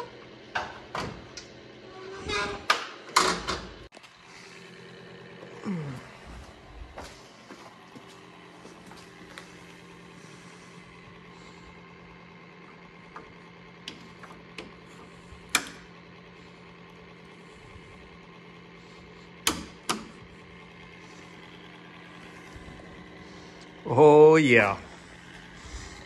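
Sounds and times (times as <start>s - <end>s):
steady low shop hum: 0.0s - 26.0s.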